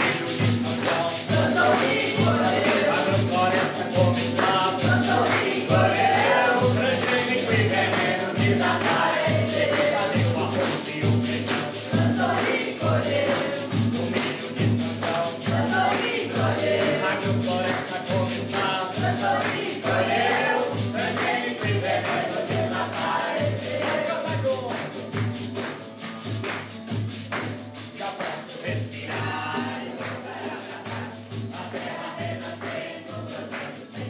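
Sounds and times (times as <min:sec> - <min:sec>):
group singing: 0:00.0 - 0:24.9, 0:28.0 - 0:34.0
acoustic guitar: 0:00.0 - 0:34.0
hands clapping a beat: 0:00.0 - 0:34.0
tambourine jingling: 0:00.0 - 0:34.0.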